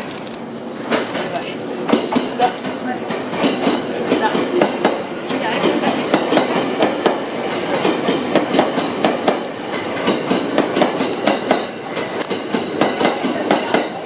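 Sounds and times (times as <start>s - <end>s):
train wheels clacking over rail joints: 0.0s - 14.0s.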